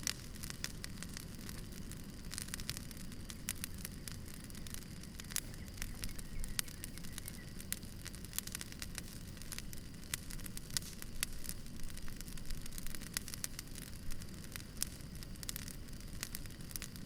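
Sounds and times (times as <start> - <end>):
low steady rumble: 0.0 - 16.8
campfire crackling and popping: 0.0 - 17.0.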